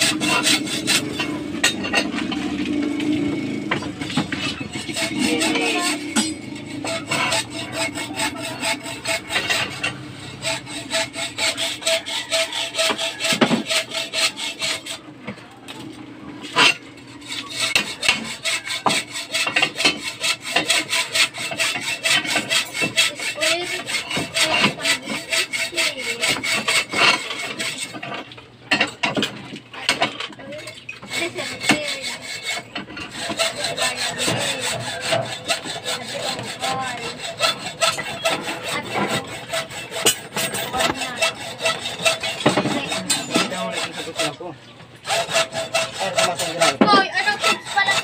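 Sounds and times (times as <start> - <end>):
hacksaw cutting metal bar: 0.0 - 15.0, 16.4 - 48.0.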